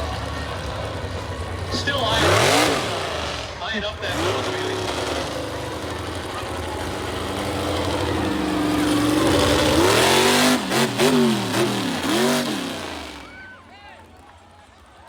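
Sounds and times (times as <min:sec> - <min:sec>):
monster truck engine revving: 0:00.0 - 0:14.2.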